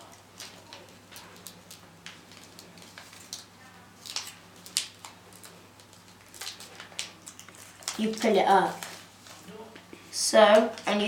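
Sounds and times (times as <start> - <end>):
paper crinkling and rustling: 0.0 - 9.9.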